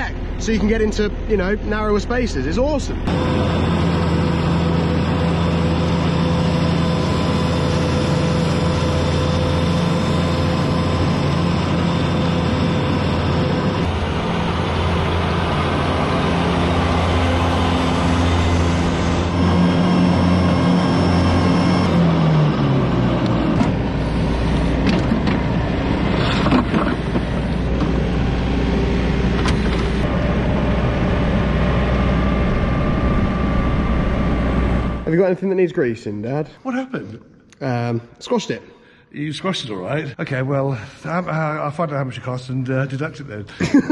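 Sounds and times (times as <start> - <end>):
mower engine running: 0.0 - 35.2.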